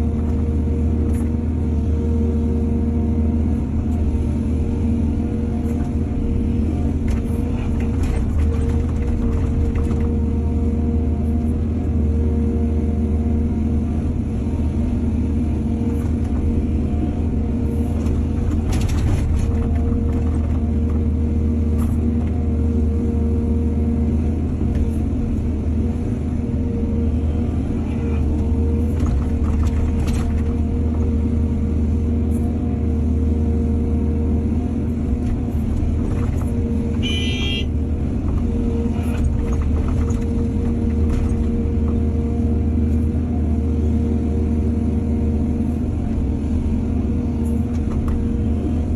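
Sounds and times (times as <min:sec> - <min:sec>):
excavator diesel engine rumble: 0:00.0 - 0:48.9.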